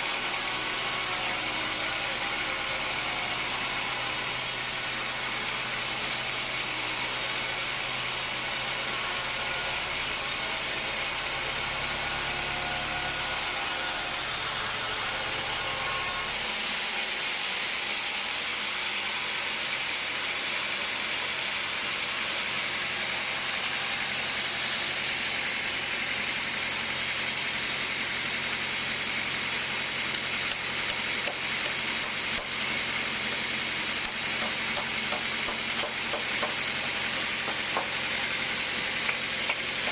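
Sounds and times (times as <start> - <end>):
low machinery hum: 0.0 - 35.6
sawmill machinery hissing: 0.0 - 39.9.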